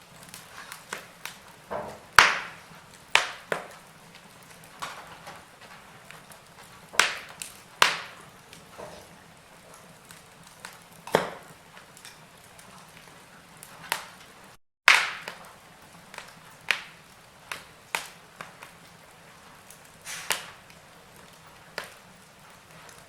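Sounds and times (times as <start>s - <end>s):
low fire hiss: 0.0s - 23.0s
sharp fire pops: 0.0s - 23.0s
wood fire crackling: 0.0s - 23.0s.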